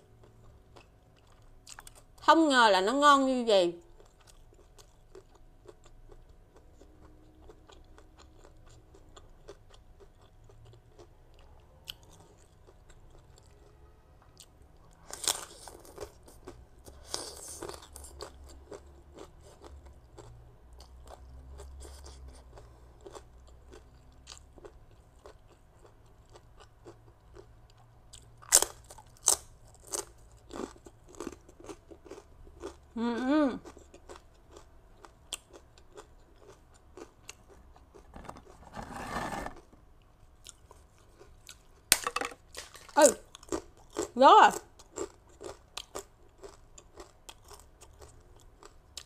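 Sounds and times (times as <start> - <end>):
chewing and crunching cracker: 0.0 - 2.3, 3.8 - 38.9, 39.5 - 49.0.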